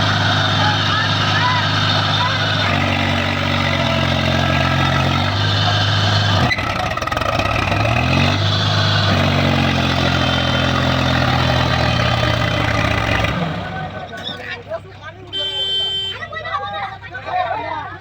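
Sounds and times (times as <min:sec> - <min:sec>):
diesel engine revving: 0:00.0 - 0:16.1.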